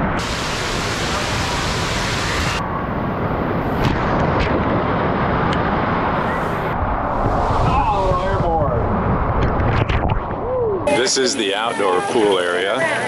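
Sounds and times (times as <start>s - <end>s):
water torrent crashing down: 0.0s - 11.6s.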